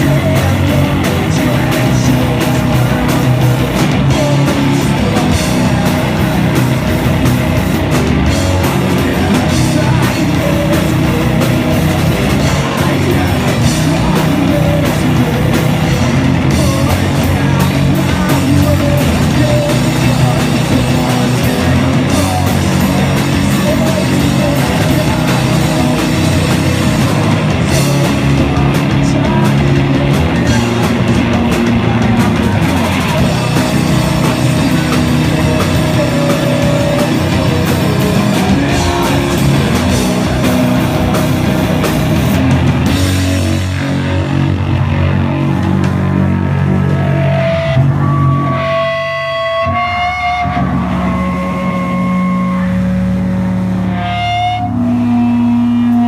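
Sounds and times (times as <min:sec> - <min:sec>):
live punk rock band: 0:00.0 - 0:56.0.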